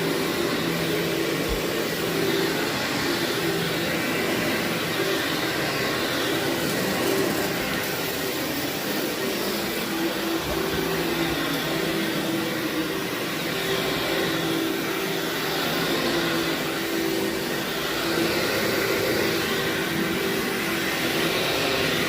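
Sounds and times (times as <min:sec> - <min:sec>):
vacuum cleaner on carpet: 0:00.0 - 0:22.0.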